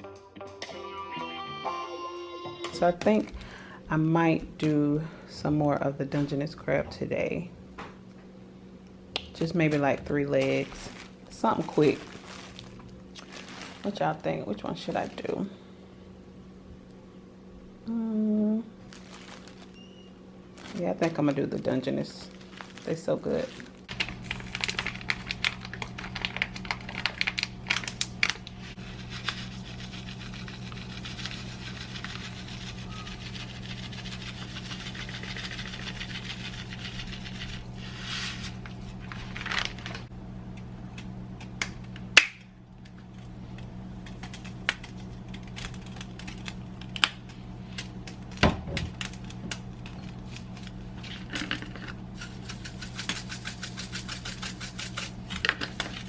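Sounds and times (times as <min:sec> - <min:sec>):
low electrical hum: 0:02.5 - 0:56.0.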